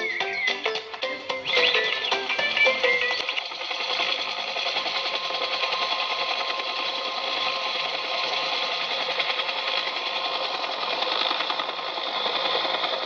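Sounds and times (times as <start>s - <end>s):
rotor rattle: 0.0s - 13.0s
toy helicopter motor whirring: 0.0s - 13.0s.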